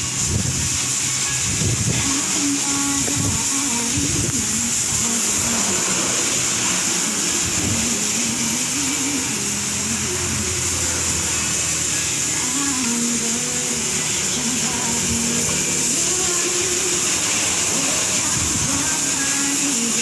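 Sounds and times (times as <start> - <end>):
pressure washer motor droning: 0.0 - 20.0
water jet hissing on car: 0.0 - 20.0.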